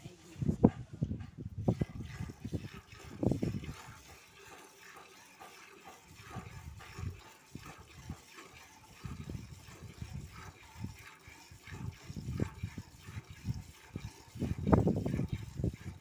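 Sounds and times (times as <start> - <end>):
milk squirting into steel bucket: 1.6 - 16.0.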